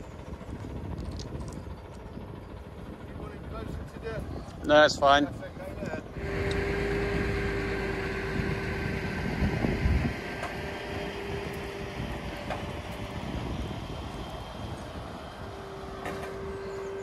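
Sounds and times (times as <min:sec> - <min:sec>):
hydraulic crane humming: 0:00.0 - 0:17.0
low rumble: 0:00.0 - 0:17.0.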